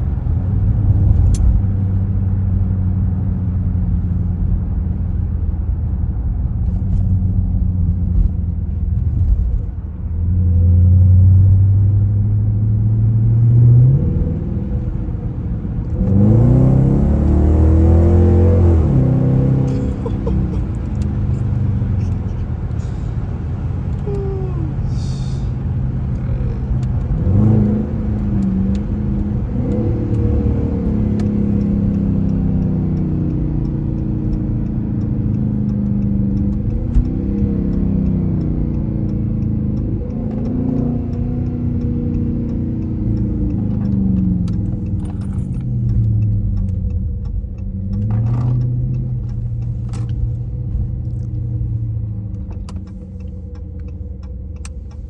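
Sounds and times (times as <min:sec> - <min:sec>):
car engine revving: 0:10.2 - 0:55.0.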